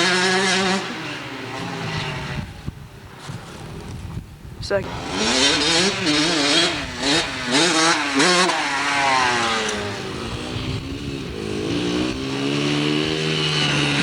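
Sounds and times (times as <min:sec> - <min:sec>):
dirt bike engine revving: 0:00.0 - 0:02.6, 0:04.8 - 0:14.0.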